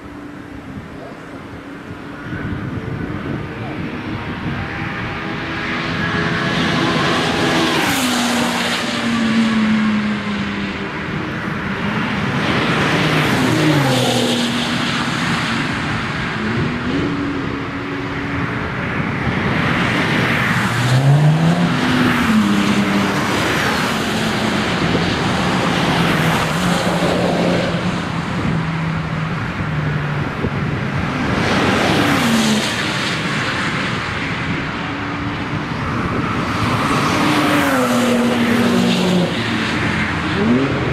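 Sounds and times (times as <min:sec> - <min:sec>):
racing cars passing at speed: 0:00.0 - 0:40.9.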